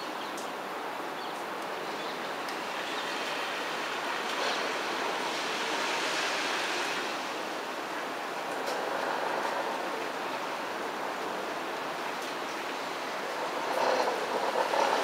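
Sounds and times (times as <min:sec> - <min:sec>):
heavy rain falling: 0:02.4 - 0:15.0.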